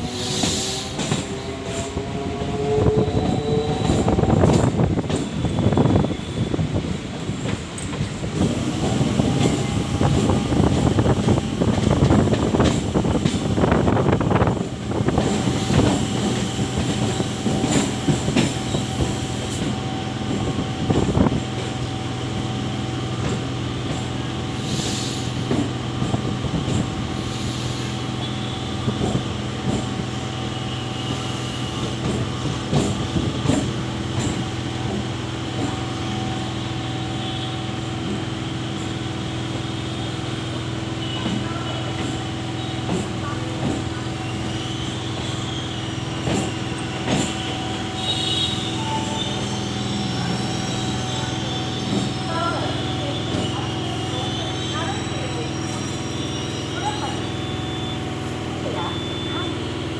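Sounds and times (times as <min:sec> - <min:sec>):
train hum with held tones: 0:00.0 - 0:59.9
train wheels rumbling on track: 0:00.0 - 0:59.9.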